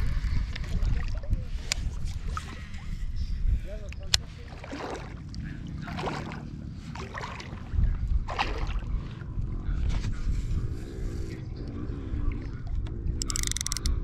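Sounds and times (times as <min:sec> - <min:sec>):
water sloshing against float tube: 0:00.0 - 0:13.8
wind rumbling on microphone: 0:00.0 - 0:14.0.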